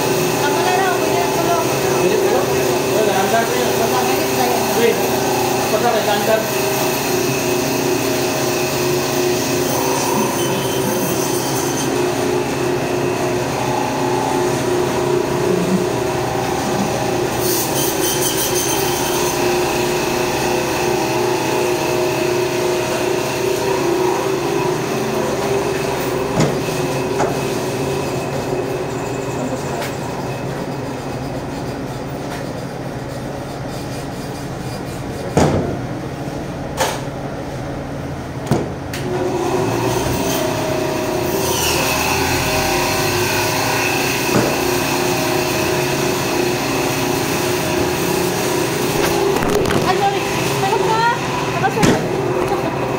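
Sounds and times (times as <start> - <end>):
loud machine drone: 0.0 - 32.0, 37.9 - 52.9.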